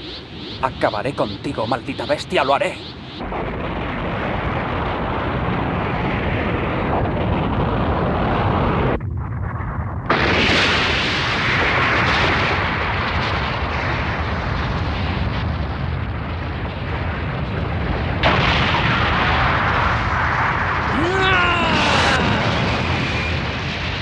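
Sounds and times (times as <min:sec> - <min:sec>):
explosion blast with rumble: 0:03.2 - 0:24.0.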